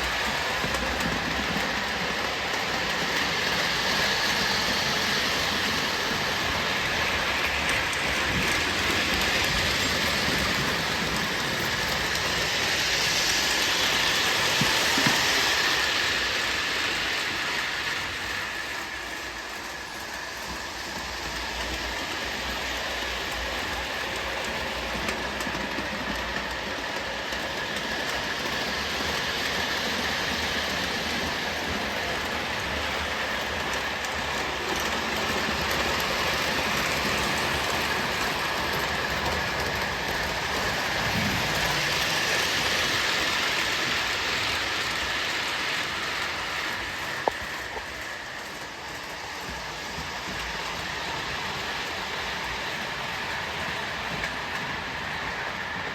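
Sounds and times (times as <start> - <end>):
model train motor whir: 0.0 - 55.9
model train wheels rushing on rail: 0.0 - 55.9.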